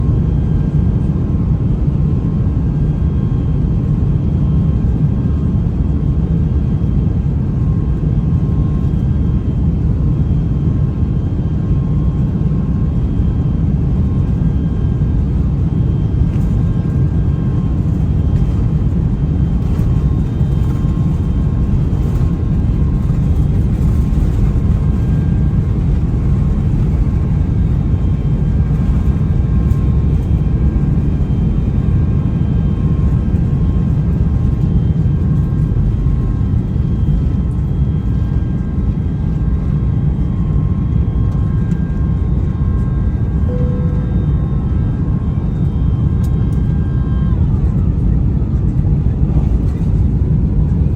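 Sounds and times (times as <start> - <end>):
jet engine whine: 0.0 - 50.9
jet engines rumbling: 0.0 - 50.9.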